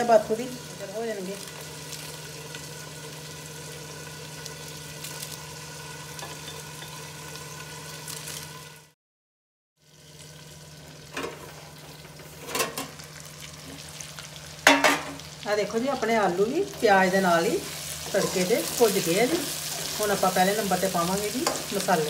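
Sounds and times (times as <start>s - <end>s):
food sizzling in oil: 0.0s - 9.0s, 9.8s - 22.0s.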